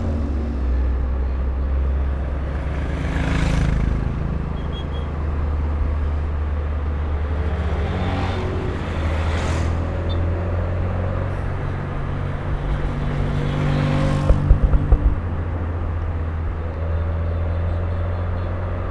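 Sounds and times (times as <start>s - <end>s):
car engine droning: 0.0s - 18.9s
road and traffic noise: 0.0s - 18.9s.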